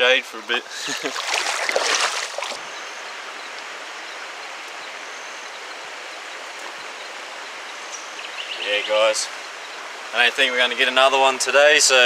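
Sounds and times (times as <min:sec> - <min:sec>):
flowing river water: 0:00.0 - 0:11.5.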